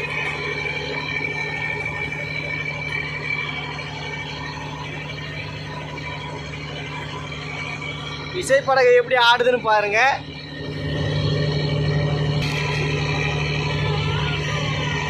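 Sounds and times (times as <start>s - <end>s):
boat diesel engine running: 0.0s - 15.0s.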